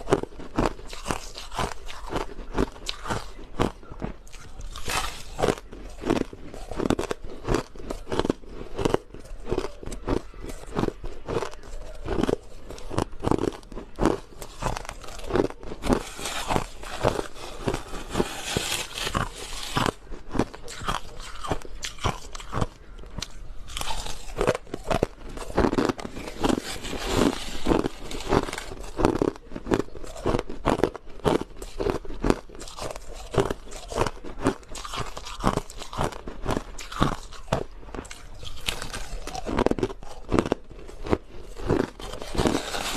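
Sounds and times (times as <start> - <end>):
crushed ice being chewed: 0.0 - 42.9.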